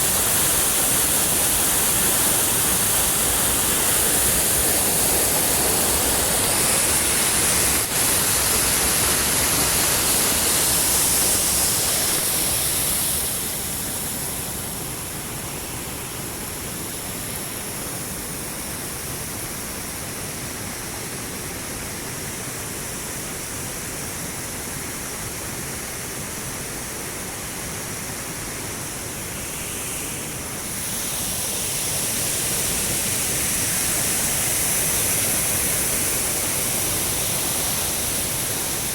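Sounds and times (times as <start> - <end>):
water rushing over a dam: 0.0 - 38.9.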